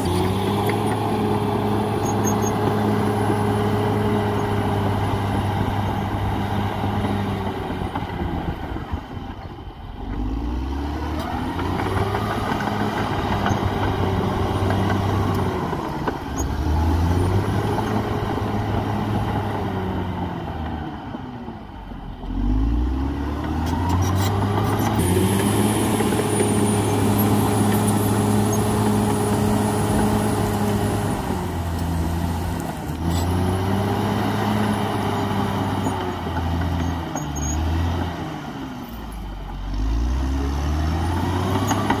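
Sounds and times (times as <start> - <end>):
bulldozer diesel engine revving: 0.0 - 42.0.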